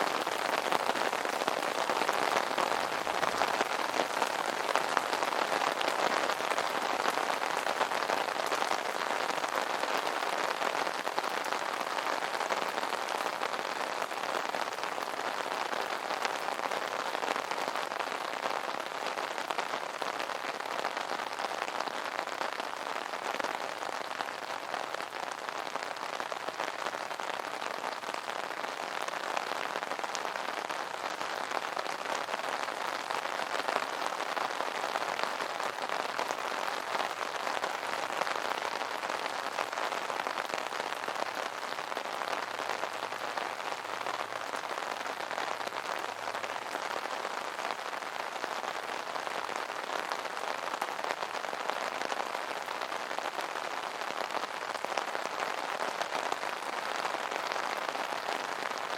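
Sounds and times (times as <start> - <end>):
rain pattering on an umbrella: 0.0 - 58.9.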